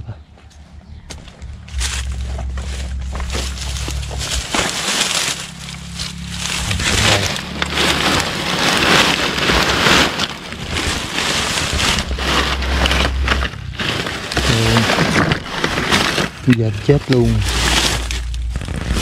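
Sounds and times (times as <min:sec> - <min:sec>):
dry leaves and stalks rustling: 0:00.6 - 0:19.0.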